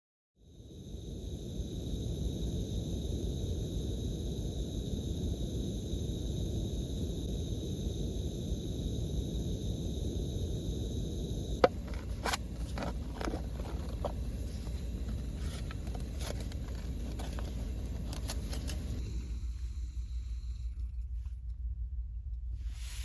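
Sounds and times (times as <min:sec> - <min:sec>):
faint high whine: 0:00.4 - 0:23.0.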